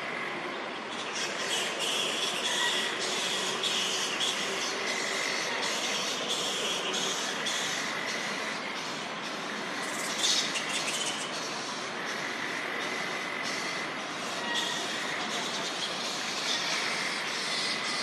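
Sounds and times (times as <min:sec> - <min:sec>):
flying foxes screeching: 0:00.9 - 0:18.0.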